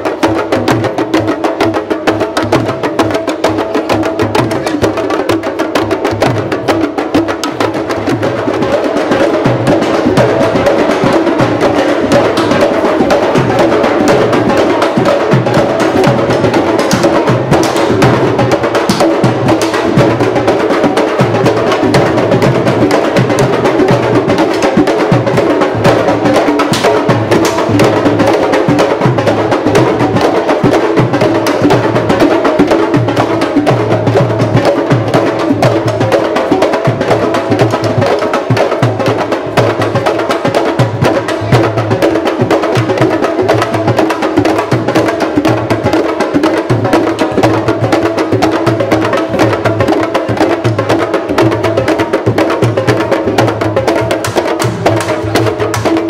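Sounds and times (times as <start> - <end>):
drum ensemble playing: 0.0 - 56.0.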